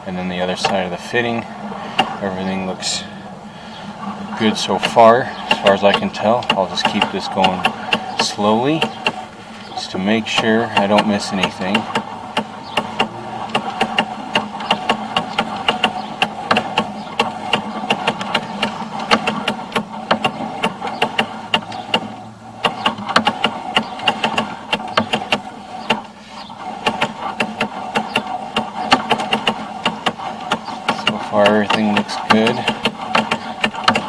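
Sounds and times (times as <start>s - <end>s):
steady hum: 0.0s - 34.0s
cable reel clicking and rattling: 0.2s - 3.1s, 3.7s - 34.0s.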